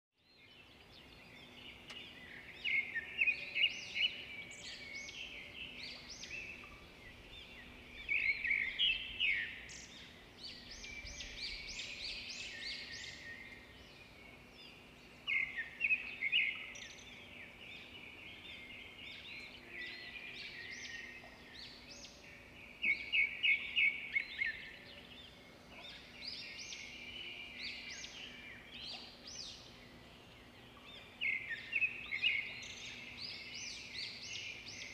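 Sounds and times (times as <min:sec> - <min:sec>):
birds chirping and trilling: 0:00.2 - 0:34.9.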